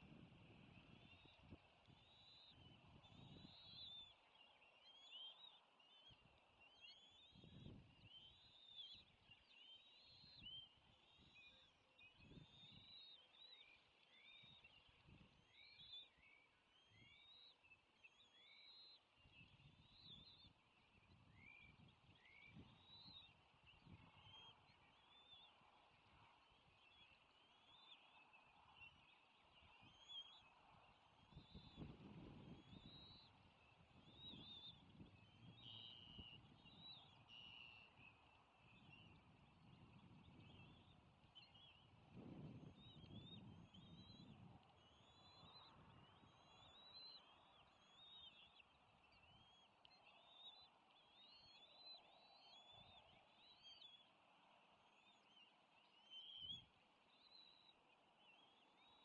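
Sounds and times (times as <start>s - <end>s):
faint bird chirping: 0.0s - 59.0s.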